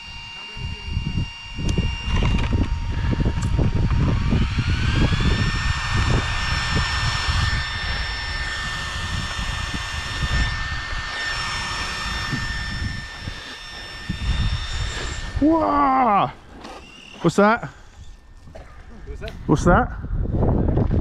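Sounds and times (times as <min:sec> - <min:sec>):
electric fans whirring: 0:00.0 - 0:21.0
wind buffeting microphone: 0:00.1 - 0:21.0.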